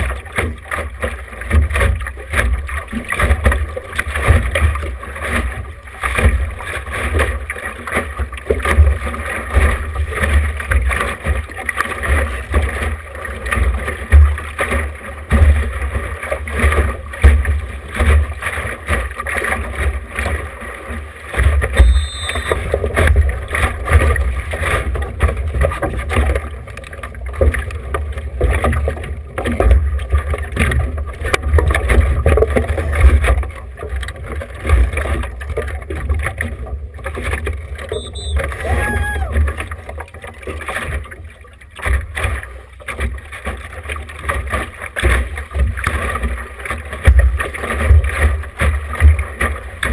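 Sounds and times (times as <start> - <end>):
water rushing along hull: 0.0 - 49.9.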